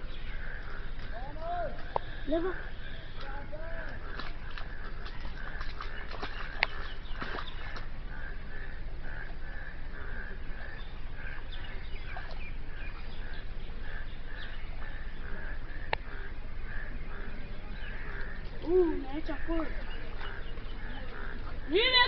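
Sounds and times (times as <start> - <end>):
frogs calling: 0.0 - 22.0.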